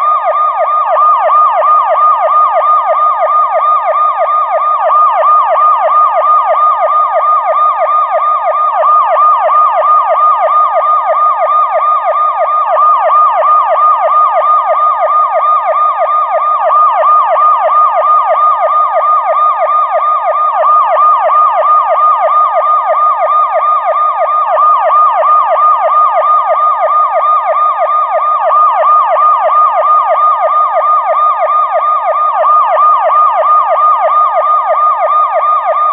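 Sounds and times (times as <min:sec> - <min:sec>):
police siren yelping: 0:00.0 - 0:35.9.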